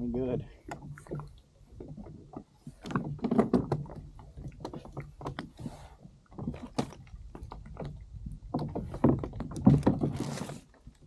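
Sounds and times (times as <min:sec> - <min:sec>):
fishing gear clicks and clunks: 0:00.6 - 0:11.0.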